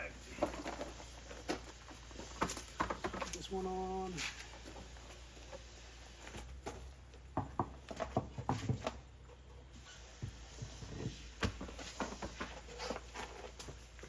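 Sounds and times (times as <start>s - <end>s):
wheels knocking and scuffing: 0.0s - 14.0s.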